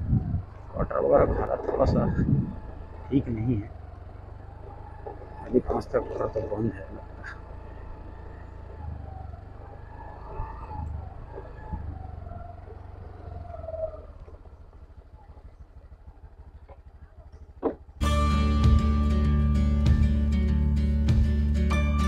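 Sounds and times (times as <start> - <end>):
car rumbling on dirt road: 0.0 - 21.7.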